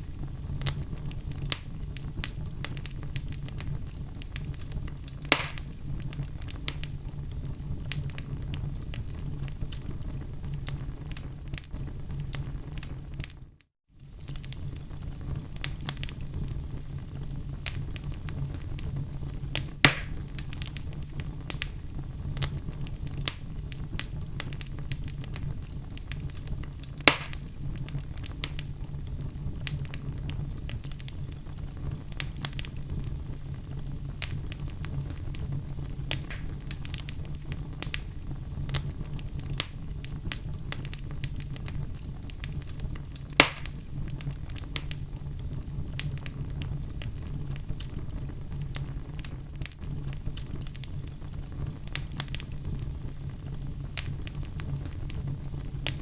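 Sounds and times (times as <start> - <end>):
low rumble of fire: 0.0 - 56.0
wood fire crackling: 0.0 - 56.0
loud pops of burning logs: 0.2 - 13.4, 14.0 - 56.0.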